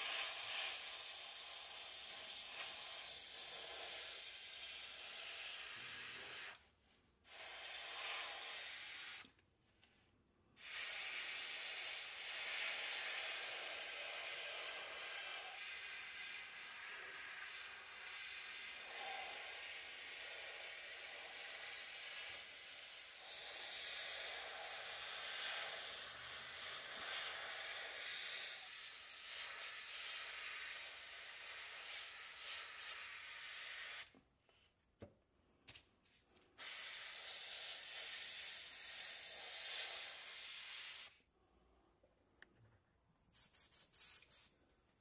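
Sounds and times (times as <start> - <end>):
airbrush spraying hiss: 0.0 - 9.4, 10.6 - 34.2, 36.6 - 41.2, 43.3 - 44.6.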